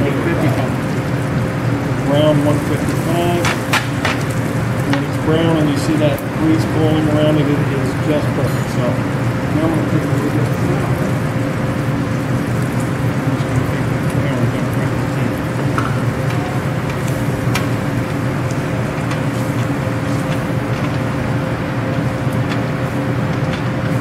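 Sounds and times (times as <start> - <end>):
sausage frying in a pan: 0.0 - 24.0.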